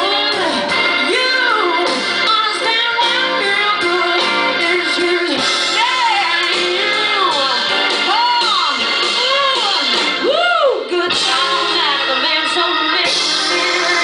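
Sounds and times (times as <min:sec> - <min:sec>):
electric guitar: 0:00.0 - 0:14.0
woman singing: 0:00.0 - 0:14.0.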